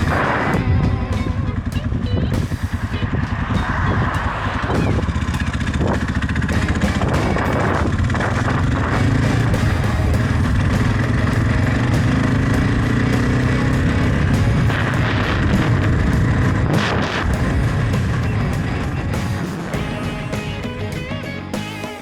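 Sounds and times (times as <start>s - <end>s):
motorcycle engine running: 0.0s - 22.0s
music playing: 0.0s - 22.0s.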